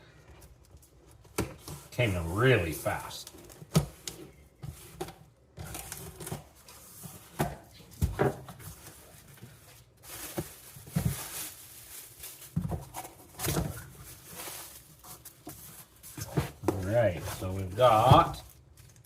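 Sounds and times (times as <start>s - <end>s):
cardboard packaging rustling: 0.2s - 19.0s.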